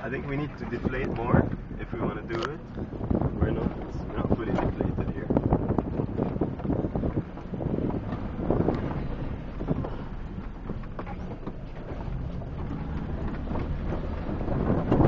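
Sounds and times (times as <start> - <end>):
vehicle engine rumble: 0.0 - 15.0
wind noise on microphone: 0.0 - 15.0
vehicle body knocks and rattles: 2.4 - 15.0.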